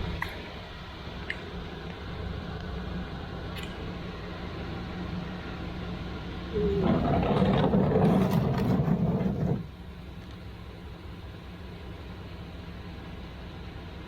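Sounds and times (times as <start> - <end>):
motor vehicle: 0.0 - 14.0
steady low hum: 0.0 - 14.0.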